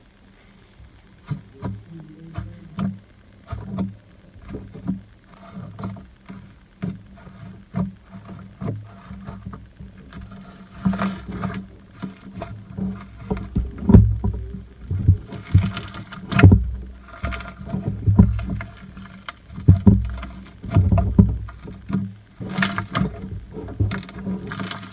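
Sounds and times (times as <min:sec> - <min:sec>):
low squelching thuds: 0:00.7 - 0:24.9.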